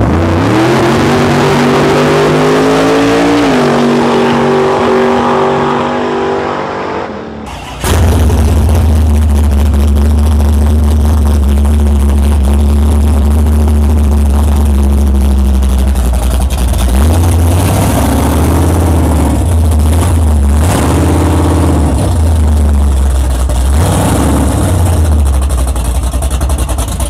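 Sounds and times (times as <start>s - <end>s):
engine idling and revving: 0.0s - 27.0s.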